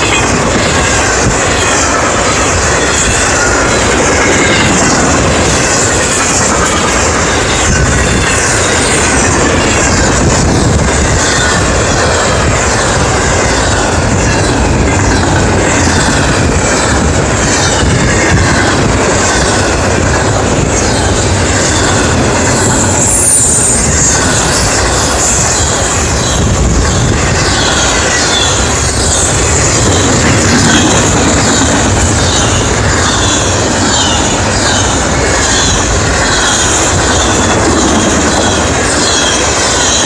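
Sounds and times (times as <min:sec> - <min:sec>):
high wheel squeals: 0:00.0 - 0:40.0
steel wheels rumbling on rail: 0:00.0 - 0:40.0.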